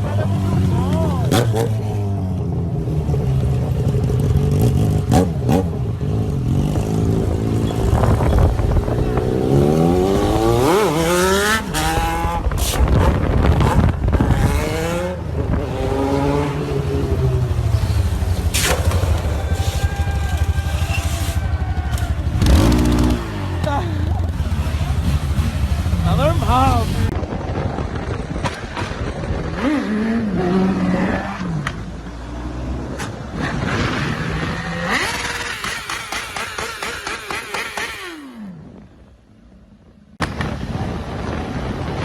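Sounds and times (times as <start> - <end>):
motorcycle engines revving: 0.0 - 39.4.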